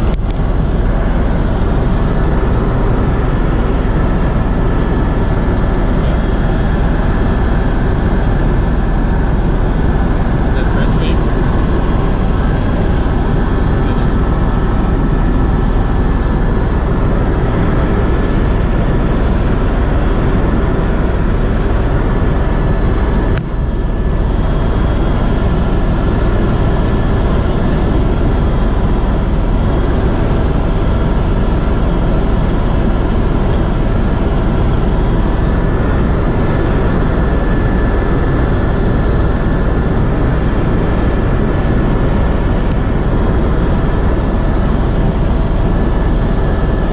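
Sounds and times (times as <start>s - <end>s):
helicopter rotor and engine drone: 0.0s - 46.9s.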